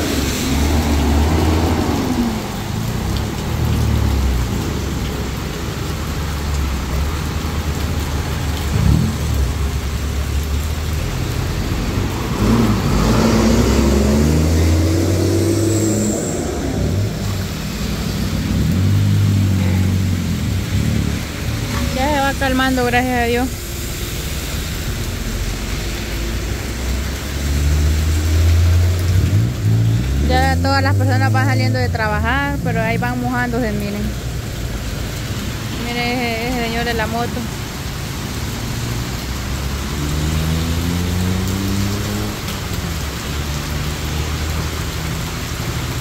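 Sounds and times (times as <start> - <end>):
heavy rain: 0.0 - 46.0
tyres hissing through water: 0.0 - 46.0
vehicle engines passing: 0.0 - 46.0.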